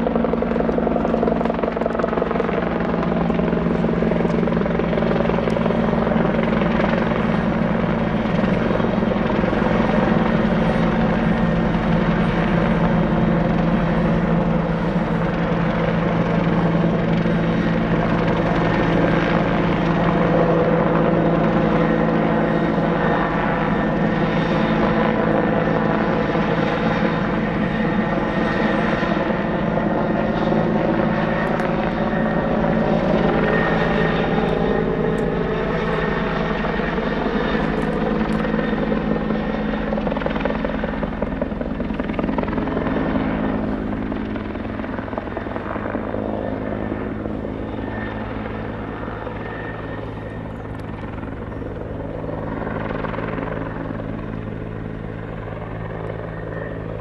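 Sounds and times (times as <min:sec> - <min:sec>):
helicopter flying past: 0:00.0 - 0:57.0.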